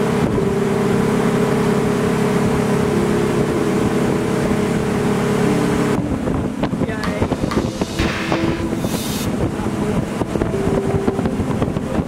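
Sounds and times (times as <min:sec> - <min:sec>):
motorboat engine running: 0:00.0 - 0:12.0
wind and water rushing: 0:00.0 - 0:12.0.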